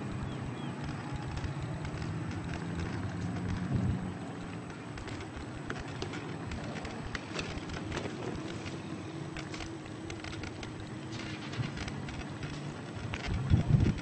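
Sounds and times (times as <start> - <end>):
sharp clicks and crackles: 0.0 - 14.0.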